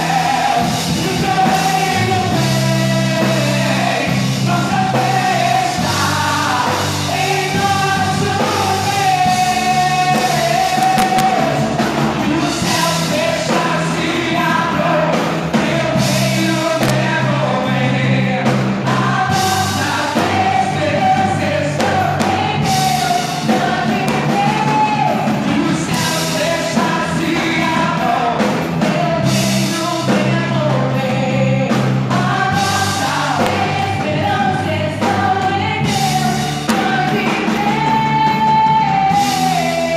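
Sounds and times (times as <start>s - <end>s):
worship band playing: 0.0s - 39.9s.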